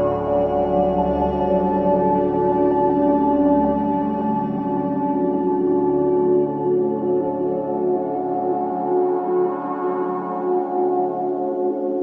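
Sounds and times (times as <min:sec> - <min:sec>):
ambient music sustained tones: 0:00.0 - 0:12.0.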